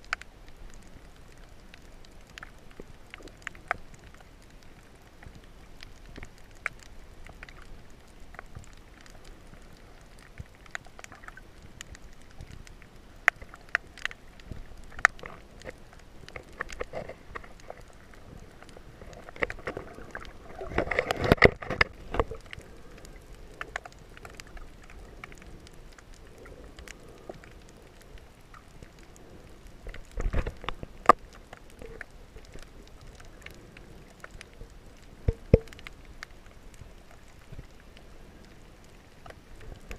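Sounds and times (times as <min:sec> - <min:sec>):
underwater clicks and crackles: 0:00.0 - 0:39.9
underwater water noise: 0:00.0 - 0:39.9.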